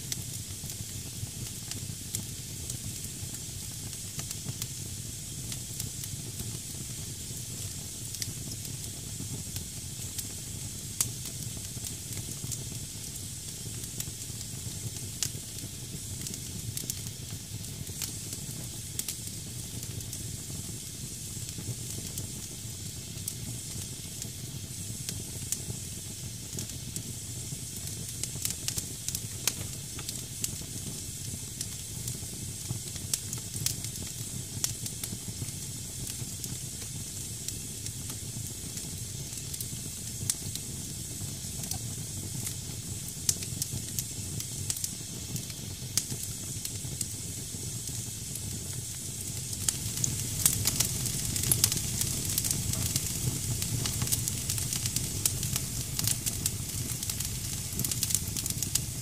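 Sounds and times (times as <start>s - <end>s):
damp firewood hissing: 0.1s - 59.0s
fire crackling and popping: 0.1s - 59.0s.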